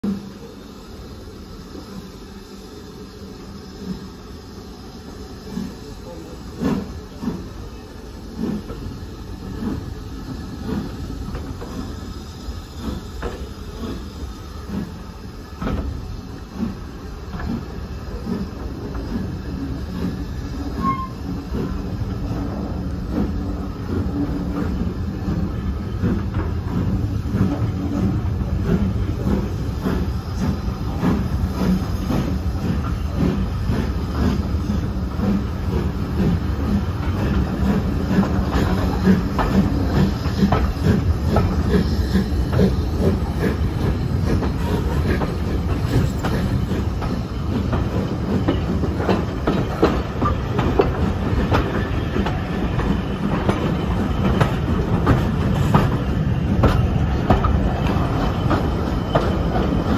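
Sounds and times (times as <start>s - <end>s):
train carriages rumbling: 0.0s - 59.9s.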